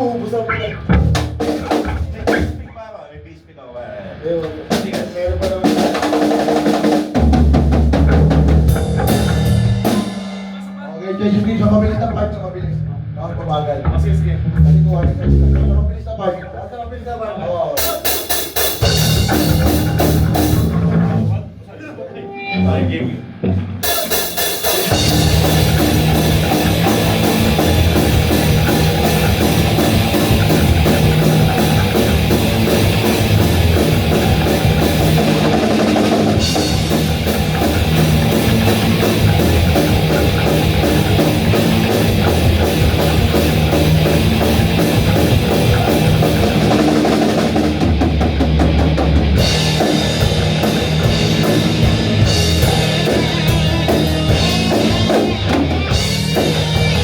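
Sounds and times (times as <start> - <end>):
live rock band playing: 0.0 - 2.7, 4.1 - 13.2, 13.8 - 15.9, 17.8 - 57.0.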